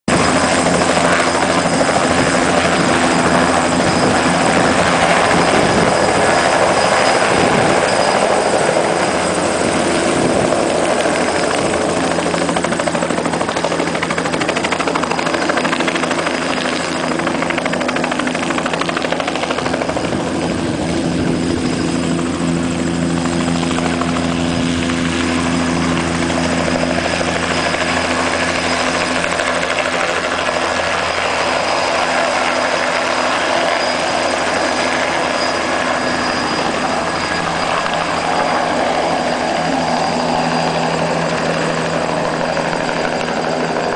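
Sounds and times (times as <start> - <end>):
helicopter engine and rotor: 0.0 - 43.9.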